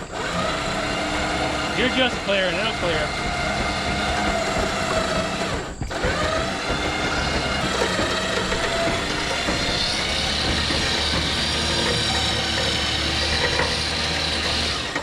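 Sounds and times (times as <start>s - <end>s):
winch motor whine: 0.0s - 15.0s.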